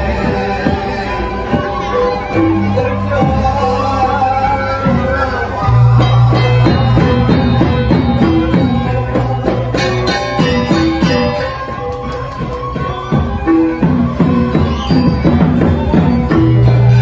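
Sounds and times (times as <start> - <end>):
struck metallophone notes: 0.0 - 17.0.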